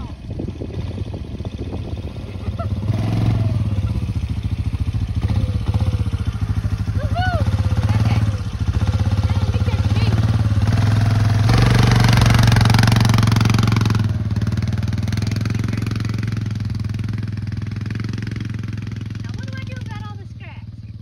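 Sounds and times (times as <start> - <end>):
atv engine idling and pulling away: 0.0 - 21.0.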